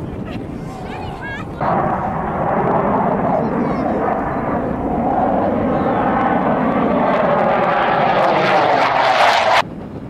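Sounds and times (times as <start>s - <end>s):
jet flying overhead: 0.0s - 9.7s.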